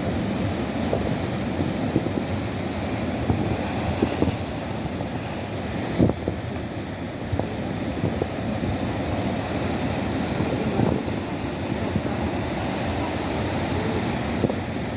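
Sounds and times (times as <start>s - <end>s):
ocean waves washing: 0.0s - 14.9s
wind buffeting microphone: 0.0s - 14.9s.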